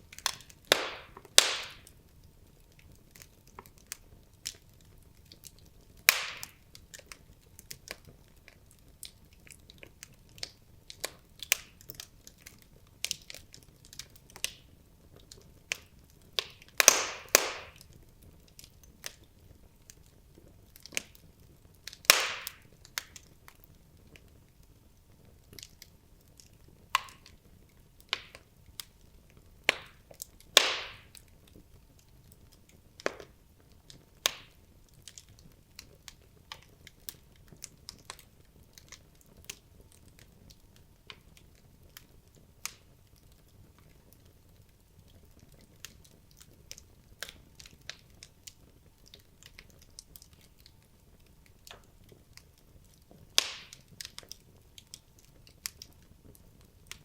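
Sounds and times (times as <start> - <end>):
burning logs popping: 0.0 - 57.0
fire crackling: 0.0 - 57.0.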